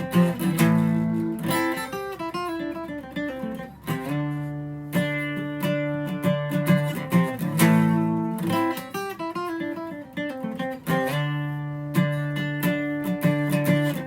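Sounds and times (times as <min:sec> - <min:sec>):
acoustic guitar strummed and picked: 0:00.0 - 0:14.0.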